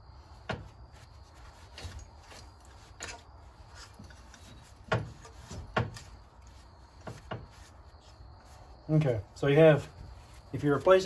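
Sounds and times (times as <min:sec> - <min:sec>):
parts rubbing on cloth: 0:00.2 - 0:11.0.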